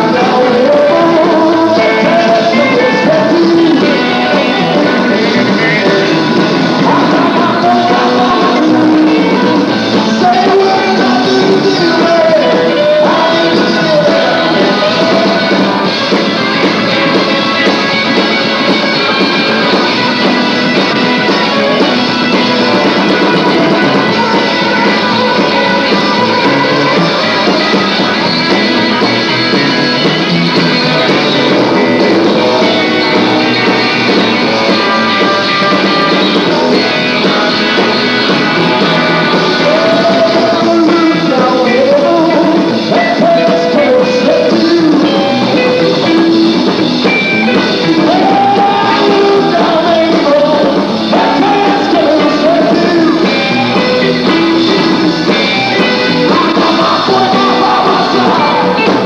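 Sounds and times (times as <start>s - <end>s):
live band playing: 0.0s - 59.0s
man singing: 0.0s - 59.0s.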